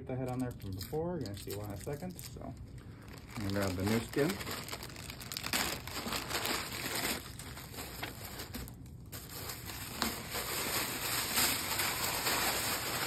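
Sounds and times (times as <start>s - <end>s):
plastic bag crinkling: 0.3s - 13.0s.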